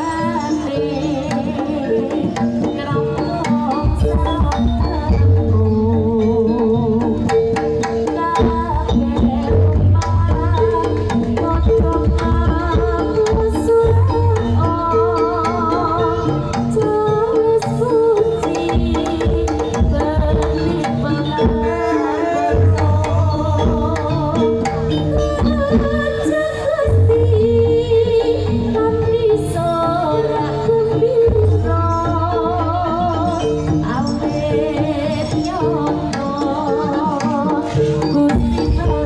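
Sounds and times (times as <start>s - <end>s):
low drums: 0.0s - 39.0s
wavering melody line: 0.0s - 39.0s.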